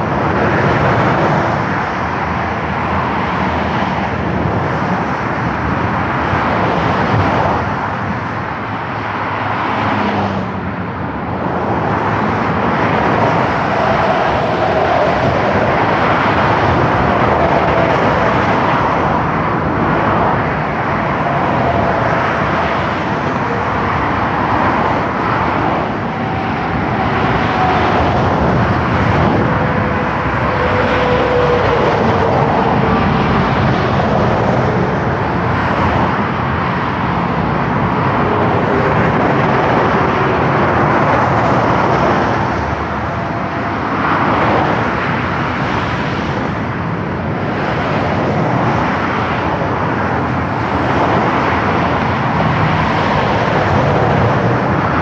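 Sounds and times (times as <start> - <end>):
motorway traffic rushing: 0.0 - 55.0
passing vehicle whines: 0.0 - 55.0.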